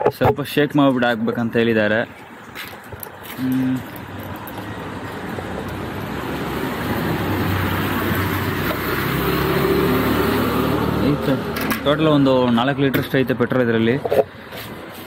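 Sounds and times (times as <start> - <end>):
motor vehicle noise: 0.0 - 15.0.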